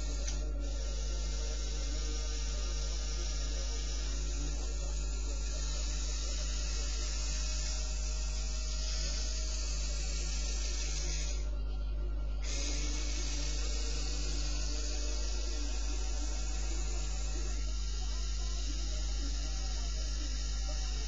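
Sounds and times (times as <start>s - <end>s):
low electrical hum: 0.0s - 21.0s
small electric motors whirring: 0.0s - 21.0s.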